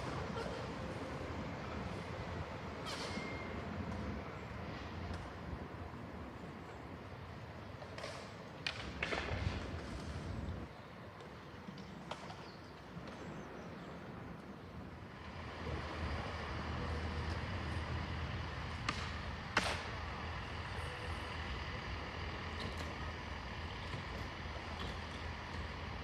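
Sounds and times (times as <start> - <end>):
diesel train rumbling: 0.0 - 26.0.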